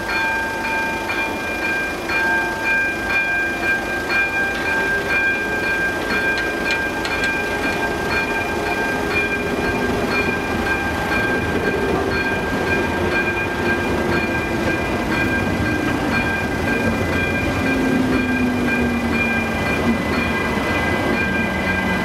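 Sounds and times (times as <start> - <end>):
crossing warning bell: 0.0 - 22.0
freight wagons rumbling over crossing: 0.0 - 22.0
wheels clicking over rail joints: 0.1 - 22.0.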